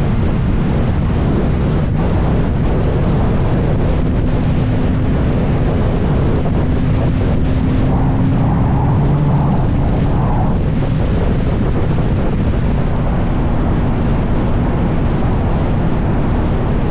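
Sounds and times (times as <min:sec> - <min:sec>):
wind buffeting on microphone: 0:00.0 - 0:16.9.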